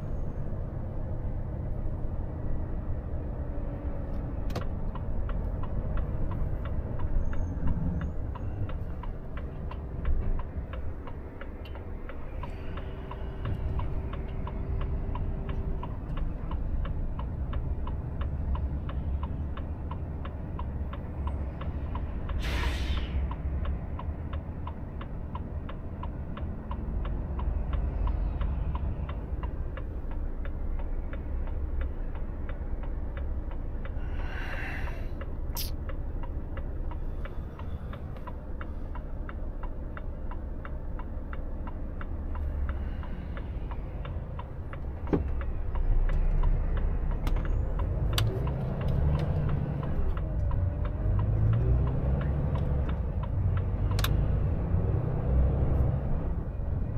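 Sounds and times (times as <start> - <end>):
diesel truck engine rumble: 0.0 - 56.9
turn indicator clicking: 8.0 - 22.4, 23.3 - 34.0, 35.2 - 56.0.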